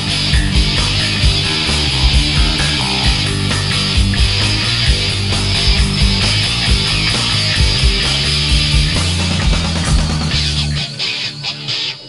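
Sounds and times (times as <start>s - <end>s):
bass guitar: 0.0s - 11.6s
drums: 0.0s - 12.0s
electric guitar: 0.0s - 12.0s.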